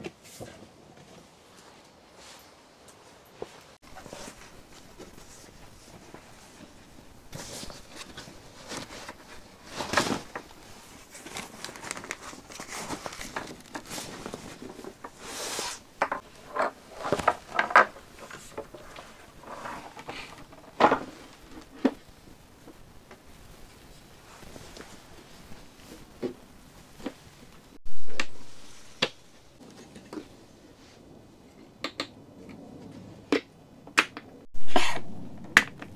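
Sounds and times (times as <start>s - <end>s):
rustling and crinkling: 0.0s - 31.6s.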